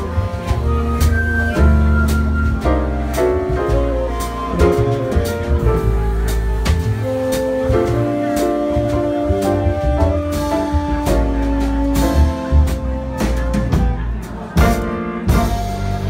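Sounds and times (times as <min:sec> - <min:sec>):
held melody notes: 0:00.0 - 0:13.6
drum kit with cymbal strokes: 0:00.0 - 0:16.0
plucked upright bass: 0:00.0 - 0:16.0.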